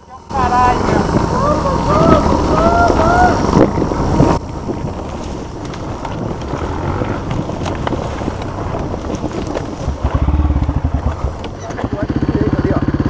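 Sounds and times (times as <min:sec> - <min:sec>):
dirt bike engine running: 0:00.0 - 0:13.0
wind on microphone: 0:00.4 - 0:11.6.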